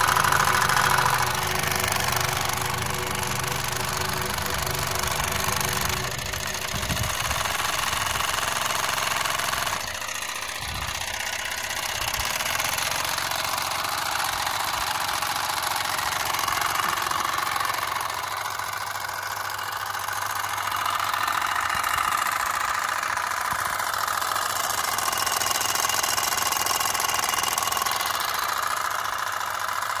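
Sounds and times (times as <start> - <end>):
miniature steam engine chuffing: 0.0 - 30.0.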